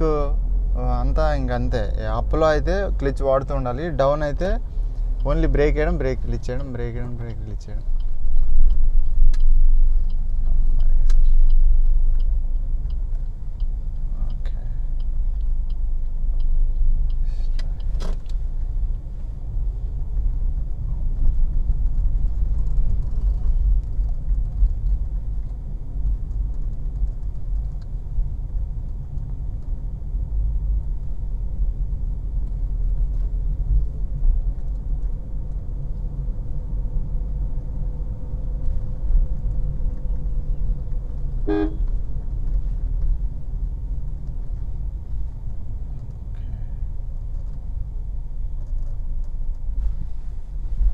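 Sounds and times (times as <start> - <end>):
car engine and road rumble: 0.0 - 50.9
turn indicator ticking: 0.7 - 46.3.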